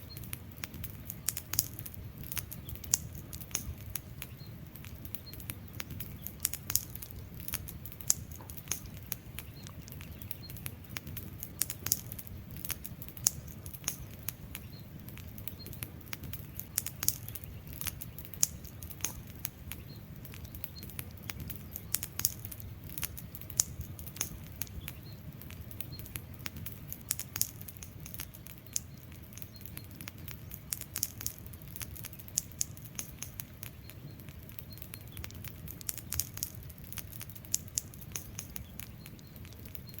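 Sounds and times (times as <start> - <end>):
logs crackling and popping: 0.0 - 40.0
low rumble of flames: 0.0 - 40.0.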